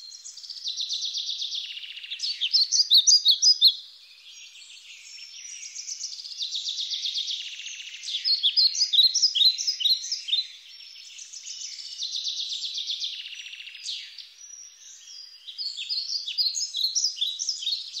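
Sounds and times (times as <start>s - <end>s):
songbirds chirping and trilling: 0.0s - 18.0s.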